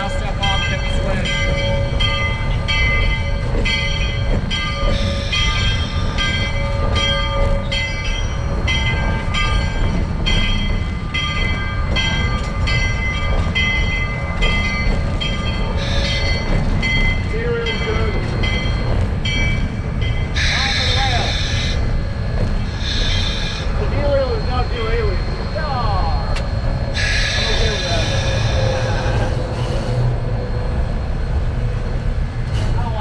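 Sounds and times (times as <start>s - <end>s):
steam locomotive rumble: 0.0s - 33.0s
high ringing tones: 0.4s - 29.0s.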